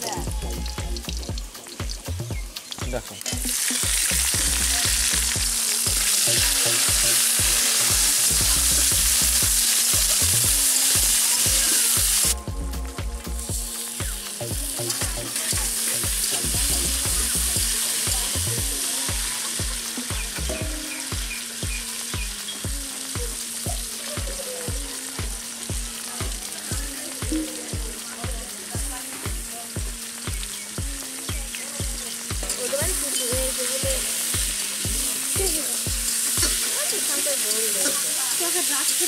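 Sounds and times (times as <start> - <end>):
background music beat: 0.0 - 38.8
food sizzling in hot oil: 0.0 - 39.0.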